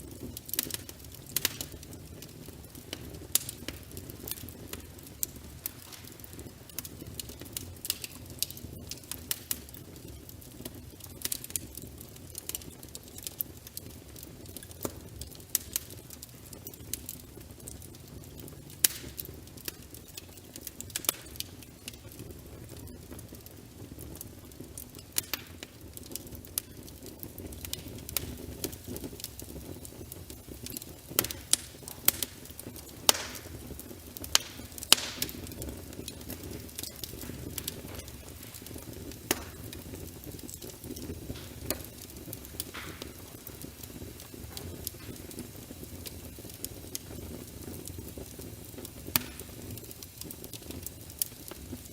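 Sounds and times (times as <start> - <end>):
fire crackling and popping: 0.0 - 51.9
low rush of flames: 0.0 - 51.9.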